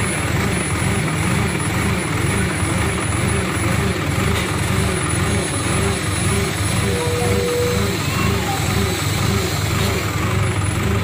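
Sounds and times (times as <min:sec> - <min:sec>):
crane diesel engine running: 0:00.0 - 0:11.0.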